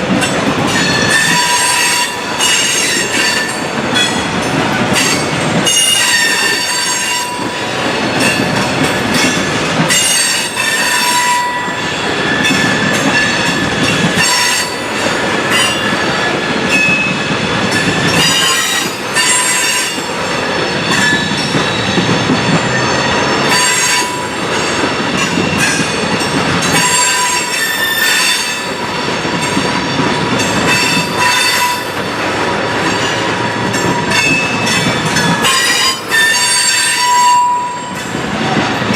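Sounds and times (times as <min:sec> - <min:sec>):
freight train wheels clattering: 0:00.0 - 0:38.9
train wheels squealing on rails: 0:00.0 - 0:38.9.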